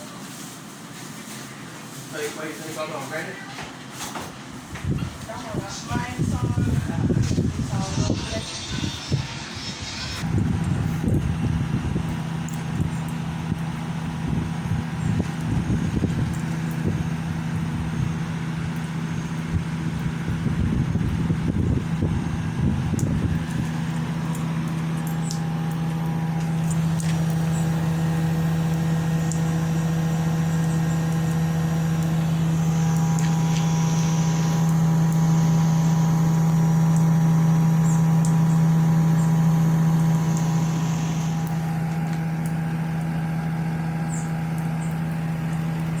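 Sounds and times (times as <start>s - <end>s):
air conditioner humming: 0.0s - 46.0s.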